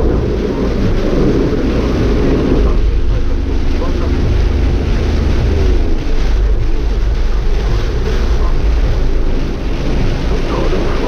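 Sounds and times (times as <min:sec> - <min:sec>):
rain hiss: 0:00.0 - 0:11.0
tyres on wet road: 0:00.0 - 0:11.0
wind rumble on microphone: 0:00.0 - 0:11.0.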